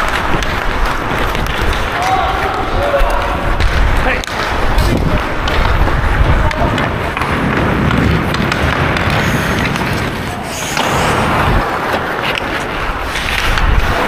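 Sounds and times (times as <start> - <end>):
ice skate blades scraping: 0.0 - 14.0
wind rumbling on microphone: 0.0 - 14.0.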